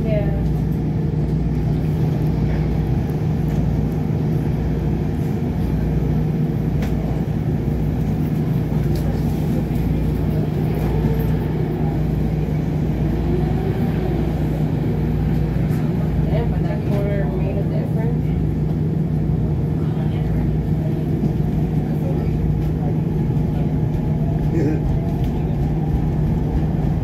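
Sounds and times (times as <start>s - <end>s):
train equipment humming: 0.0s - 27.0s.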